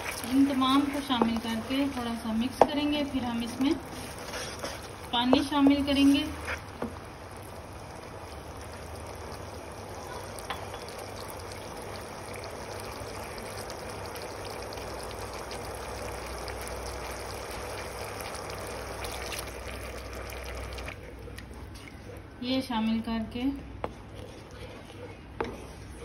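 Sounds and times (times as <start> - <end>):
sauce simmering and bubbling: 0.0 - 22.4.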